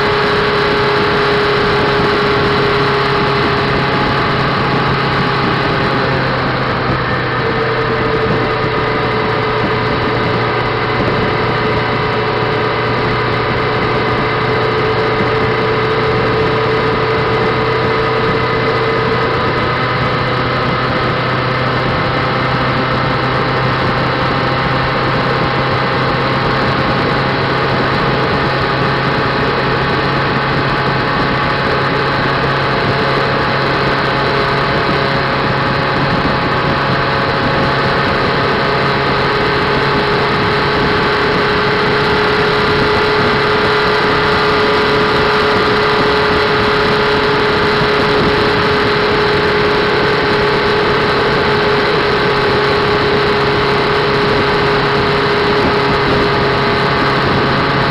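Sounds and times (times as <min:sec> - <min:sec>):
motorcycle engine cruising: 0:00.0 - 0:57.9
road noise: 0:00.0 - 0:57.9
wind noise: 0:00.0 - 0:57.9.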